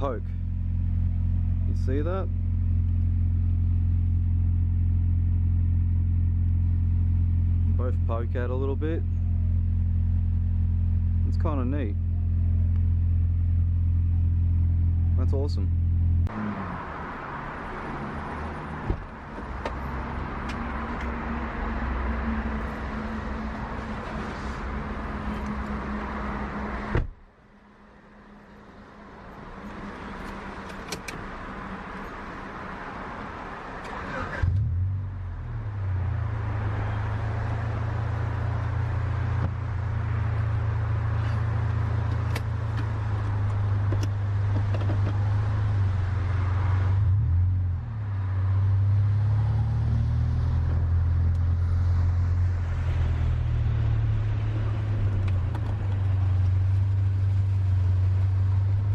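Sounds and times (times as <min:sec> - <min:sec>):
car engine drone: 0:00.0 - 0:58.9
road noise: 0:00.0 - 0:58.9.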